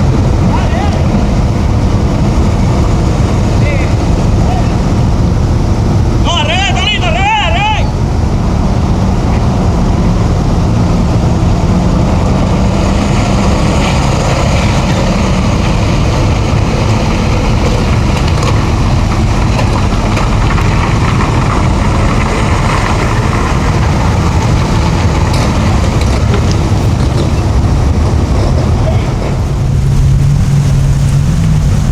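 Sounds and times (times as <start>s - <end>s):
boat engines rumbling: 0.0s - 31.9s.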